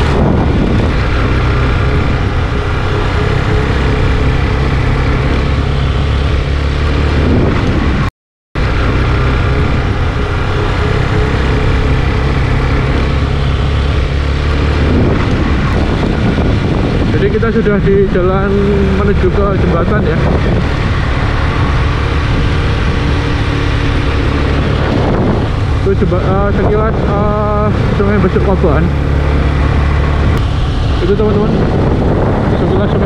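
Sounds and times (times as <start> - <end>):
motorcycle engine cruising: 0.0 - 33.0
wind and road rush: 0.0 - 33.0.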